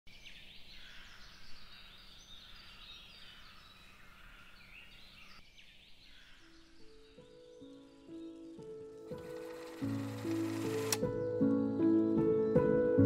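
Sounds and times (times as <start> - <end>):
songbirds chirping: 0.1 - 13.0.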